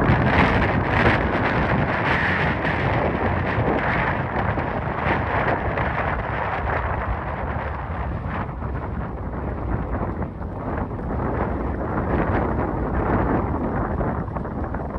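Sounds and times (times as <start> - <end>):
aircraft engine taking off: 0.0 - 14.9
wind buffeting microphone: 0.0 - 14.9.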